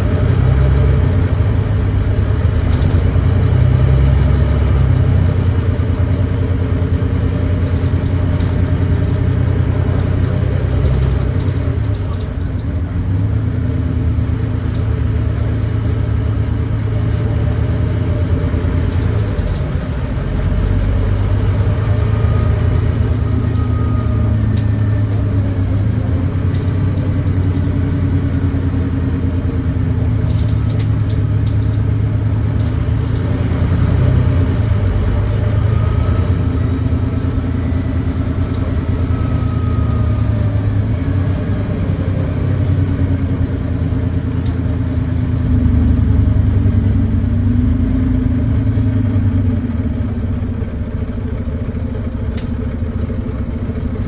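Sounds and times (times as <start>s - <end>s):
thrashy diesel bus engine: 0.0s - 54.0s.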